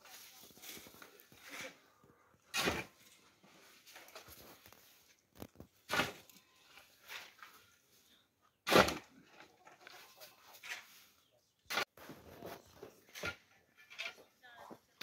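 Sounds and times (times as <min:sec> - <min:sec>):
shovel scraping stony earth: 0:00.0 - 0:07.6, 0:08.7 - 0:09.2, 0:10.0 - 0:14.3.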